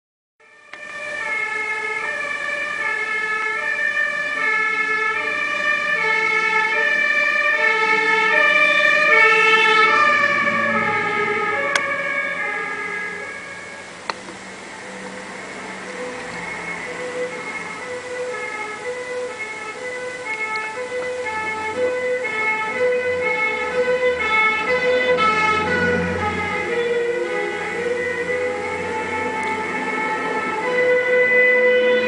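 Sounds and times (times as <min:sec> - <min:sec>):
fire engine two-tone siren: 0:00.4 - 0:32.0
truck rumble: 0:00.6 - 0:32.0.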